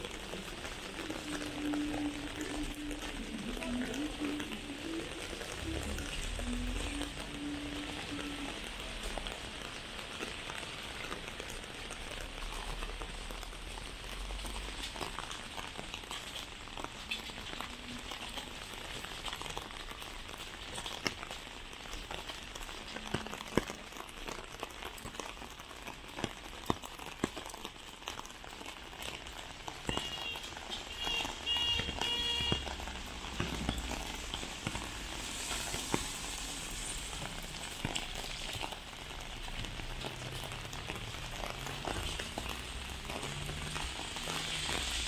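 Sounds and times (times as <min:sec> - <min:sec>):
heavy rain hissing: 0:00.0 - 0:20.8, 0:28.8 - 0:45.0
raindrop ticks: 0:00.0 - 0:45.0.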